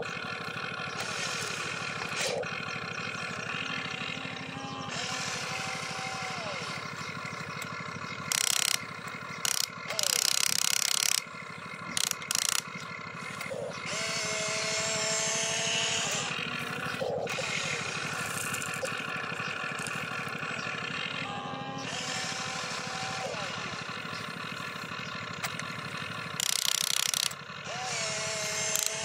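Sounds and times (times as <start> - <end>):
steady motor whine: 0.0 - 29.0
toy excavator motors whirring: 0.0 - 29.0.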